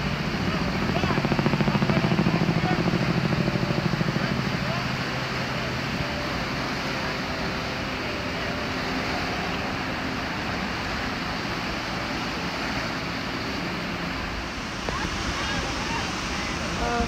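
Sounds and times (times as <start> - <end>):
jet ski idling: 0.0 - 17.0
small waves breaking on shore: 0.0 - 17.0.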